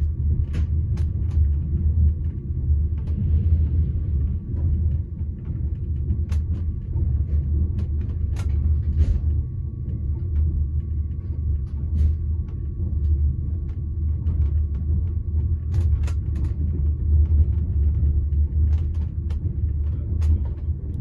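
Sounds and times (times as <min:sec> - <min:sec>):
train low rumble: 0:00.0 - 0:21.0.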